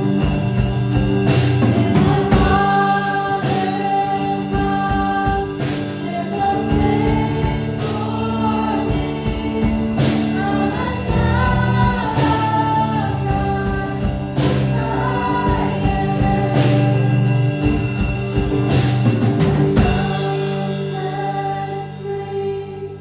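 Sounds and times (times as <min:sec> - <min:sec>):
drum kit: 0:00.0 - 0:22.7
acoustic guitar: 0:00.0 - 0:23.0
keyboard: 0:00.0 - 0:23.0
women singing: 0:01.5 - 0:18.1, 0:19.7 - 0:23.0.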